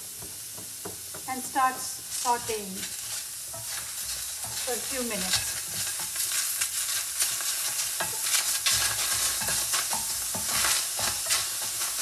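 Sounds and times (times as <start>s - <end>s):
vegetables sizzling: 0.0s - 12.0s
wooden spoon scraping a pan: 2.0s - 12.0s.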